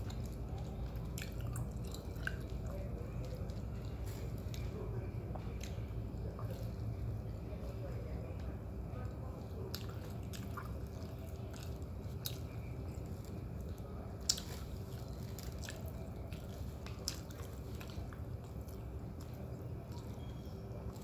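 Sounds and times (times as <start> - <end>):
chewing: 0.0 - 7.3, 8.4 - 21.0
steady low hum: 0.0 - 21.0.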